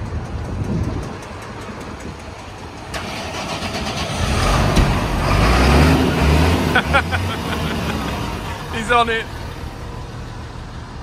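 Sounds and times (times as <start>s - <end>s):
diesel tractor engines running: 0.0s - 11.0s
tractor engine starting: 1.2s - 11.0s.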